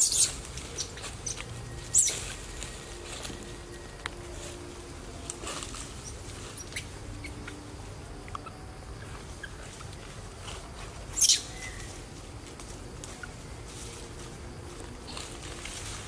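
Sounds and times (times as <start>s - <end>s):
leaves rustling in a tree: 0.0s - 16.0s.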